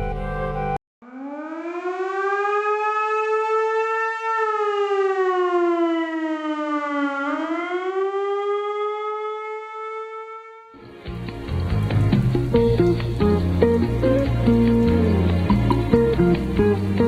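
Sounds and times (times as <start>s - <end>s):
warning siren wailing: 0.4s - 10.8s, 12.5s - 17.0s.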